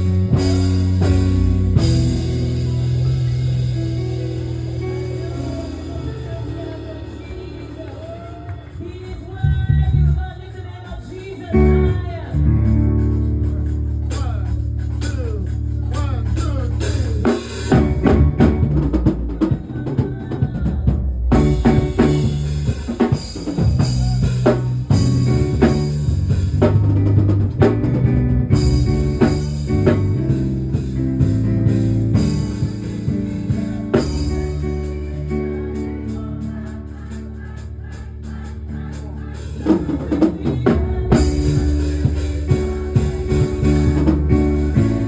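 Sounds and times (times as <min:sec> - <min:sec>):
drum kit playing: 0:00.0 - 0:10.1, 0:11.2 - 0:45.0
sustained low bass notes: 0:00.0 - 0:10.5, 0:11.5 - 0:19.5, 0:20.9 - 0:45.0.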